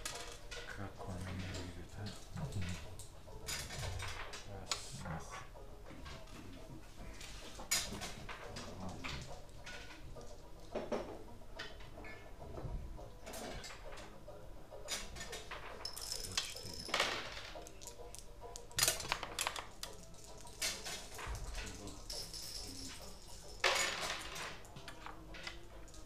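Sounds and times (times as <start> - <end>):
checkers and dice clacking on board: 0.0 - 14.2, 14.8 - 26.0.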